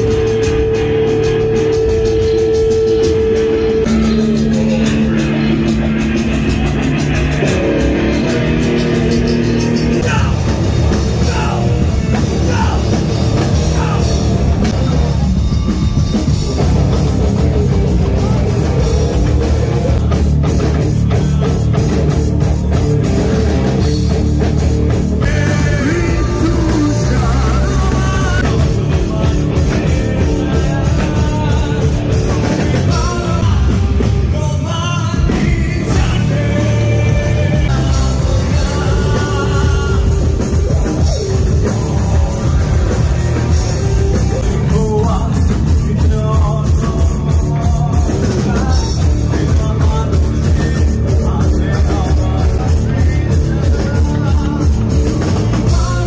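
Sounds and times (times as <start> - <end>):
rock band playing loudly: 0.0 - 56.0.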